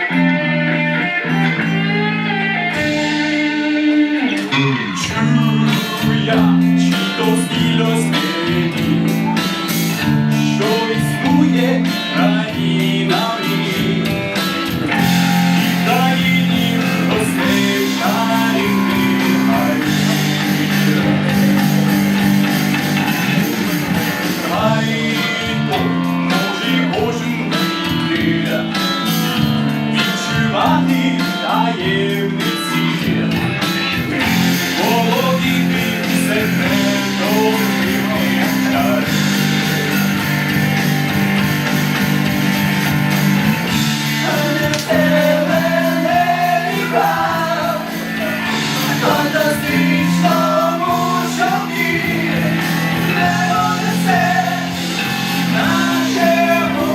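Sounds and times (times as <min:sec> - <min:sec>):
band playing live music: 0:00.0 - 0:56.9
guitar: 0:00.0 - 0:56.9.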